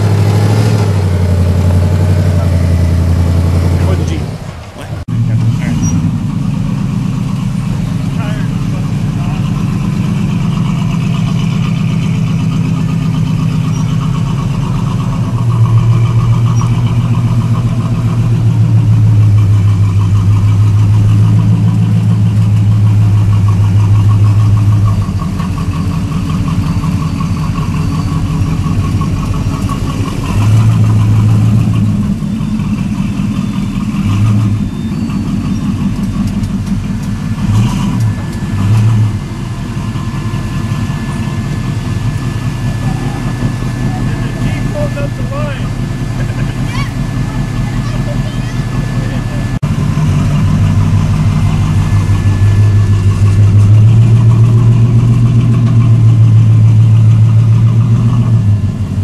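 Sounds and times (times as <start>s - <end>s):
pickup truck engine revving: 0.0s - 59.0s.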